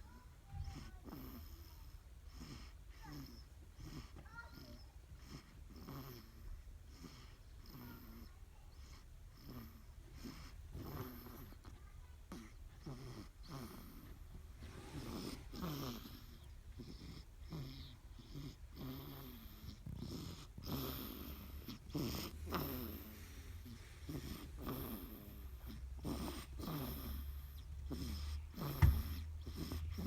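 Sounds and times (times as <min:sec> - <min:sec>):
baby snoring: 0:00.6 - 0:11.7, 0:12.3 - 0:30.0.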